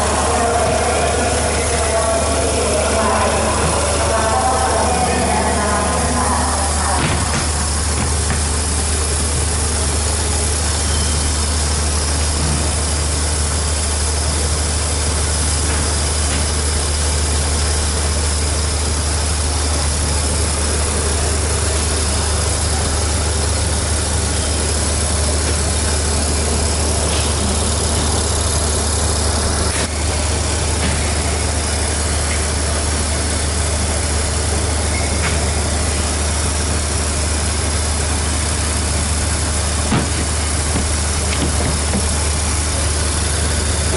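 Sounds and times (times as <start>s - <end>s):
train engine idling: 0.0s - 43.9s.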